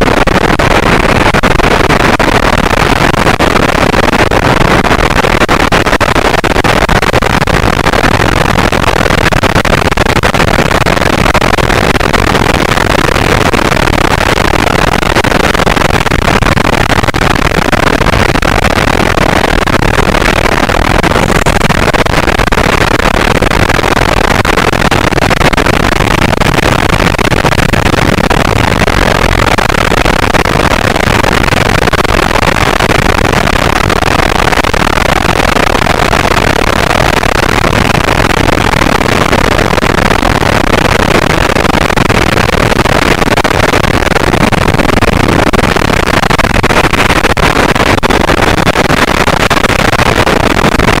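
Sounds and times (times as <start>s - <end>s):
wind rushing over microphone: 0.0s - 51.0s.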